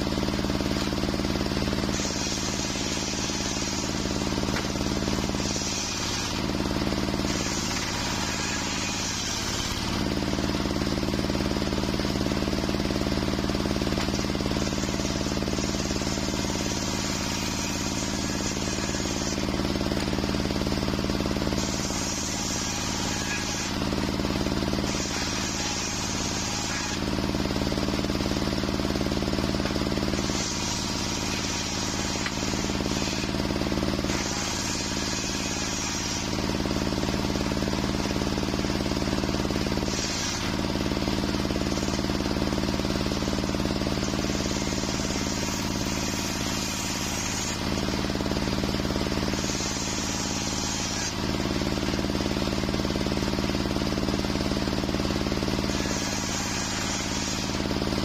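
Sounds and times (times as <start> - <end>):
circular saw ripping timber: 0.0 - 58.0
machine hum: 0.0 - 58.0.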